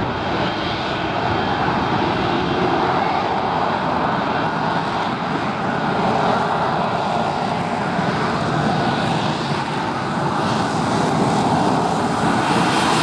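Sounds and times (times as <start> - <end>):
loud steady jet noise: 0.0 - 13.0.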